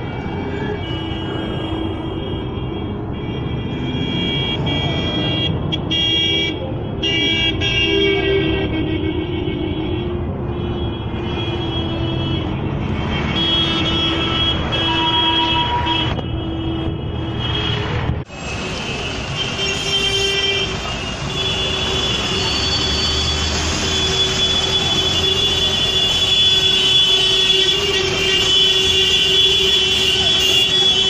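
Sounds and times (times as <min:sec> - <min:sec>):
bus engines running: 0:00.0 - 0:03.2, 0:03.8 - 0:31.0
horns honking: 0:00.0 - 0:31.0.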